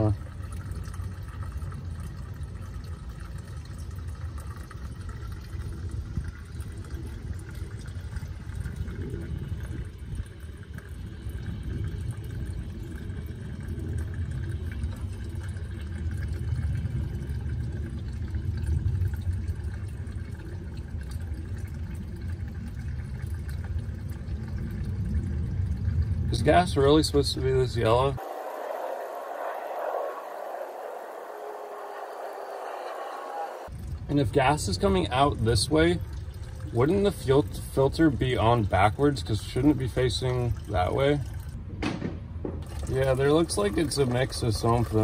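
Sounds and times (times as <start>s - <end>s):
fuel pouring: 0.0s - 41.7s, 42.6s - 45.0s
low steady rumble: 0.0s - 43.1s.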